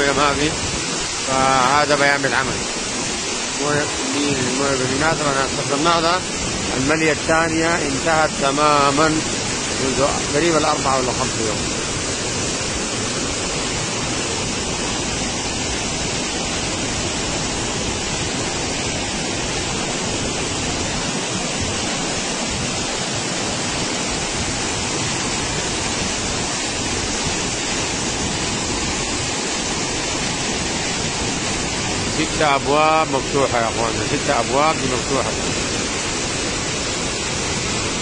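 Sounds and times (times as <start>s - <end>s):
roar of falling water: 0.0s - 38.0s.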